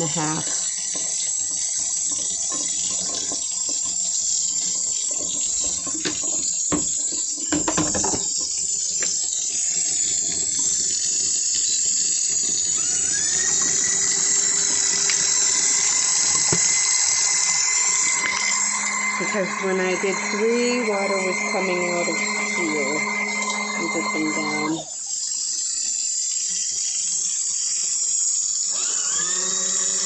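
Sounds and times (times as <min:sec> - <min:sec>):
water pouring into tub: 0:00.0 - 0:30.0.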